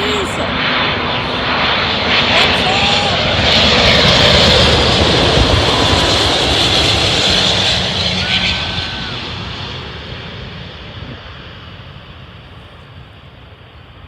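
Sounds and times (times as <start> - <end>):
jet engines passing close by: 0.0 - 14.0.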